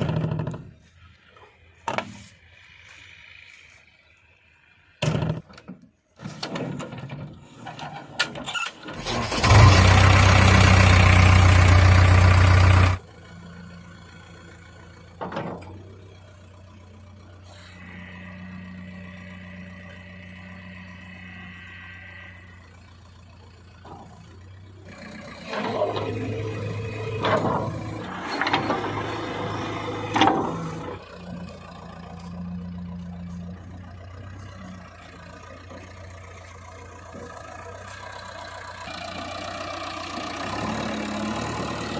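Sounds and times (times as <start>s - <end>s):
diesel engines running: 0.0s - 41.9s.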